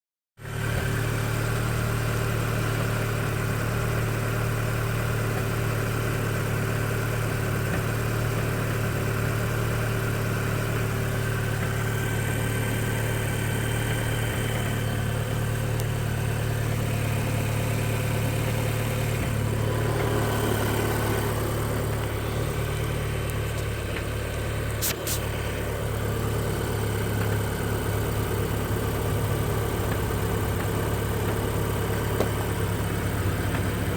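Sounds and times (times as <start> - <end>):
car engine idling: 0.4 - 33.9.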